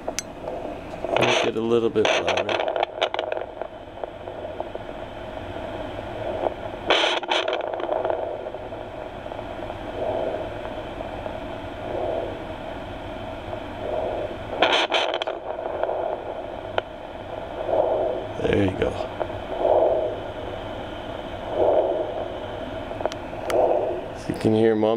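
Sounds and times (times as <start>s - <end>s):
faint whooshing heartbeat pulses: 0.0s - 24.9s
static hiss: 0.0s - 24.9s
probe scraping on scales: 0.4s - 24.5s.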